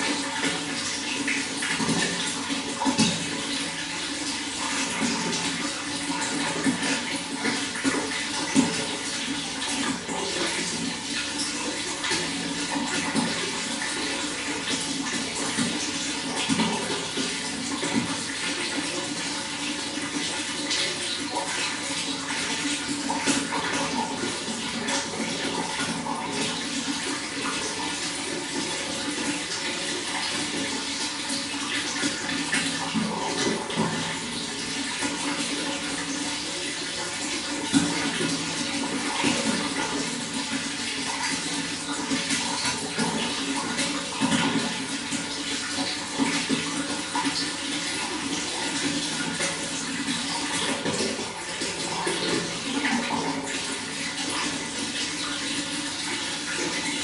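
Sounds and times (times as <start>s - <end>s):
running water with splashes: 0.0s - 57.0s.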